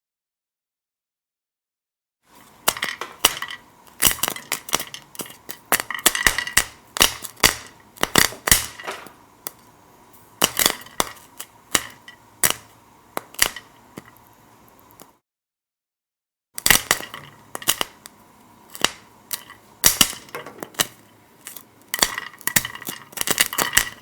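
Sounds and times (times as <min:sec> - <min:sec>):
popcorn kernels popping: 0:02.3 - 0:15.2, 0:16.6 - 0:24.0.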